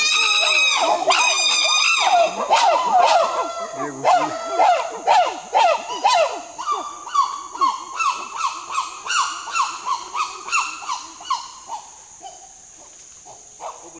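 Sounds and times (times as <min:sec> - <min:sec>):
chimpanzee hooting: 0:00.0 - 0:12.4.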